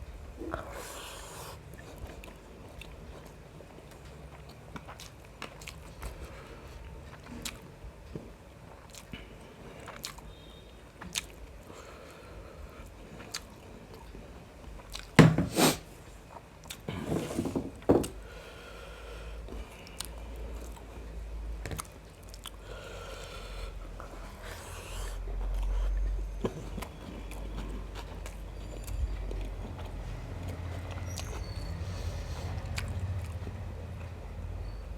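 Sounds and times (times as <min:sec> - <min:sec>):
person chewing food: 0:00.6 - 0:17.3, 0:18.0 - 0:34.8.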